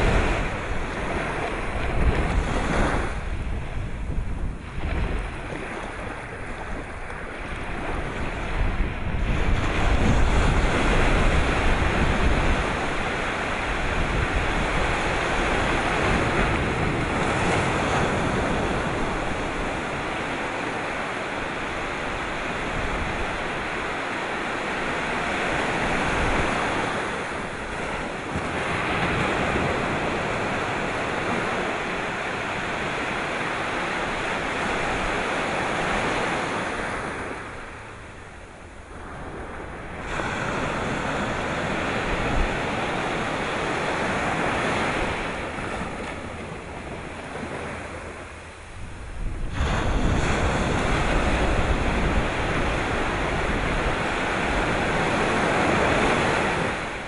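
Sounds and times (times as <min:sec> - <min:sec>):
waves breaking: 0:00.0 - 0:57.0
wind rumbling on microphone: 0:00.0 - 0:57.0.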